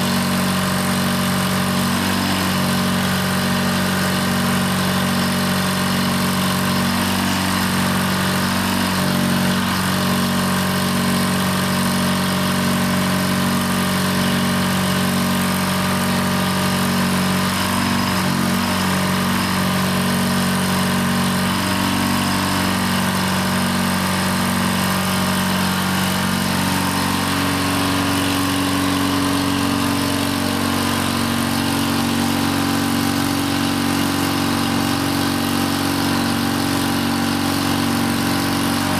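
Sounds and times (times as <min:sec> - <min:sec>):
crane engine running: 0:00.0 - 0:38.9.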